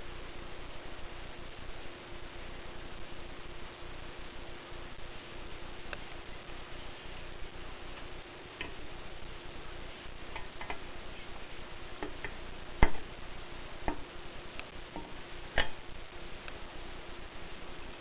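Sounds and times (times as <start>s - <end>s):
background hiss: 0.0s - 18.0s
faint hum: 0.0s - 18.0s.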